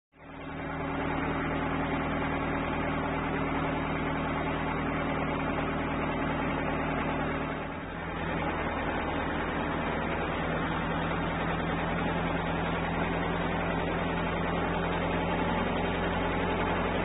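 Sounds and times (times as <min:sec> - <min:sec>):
engine humming: 0:00.2 - 0:17.0.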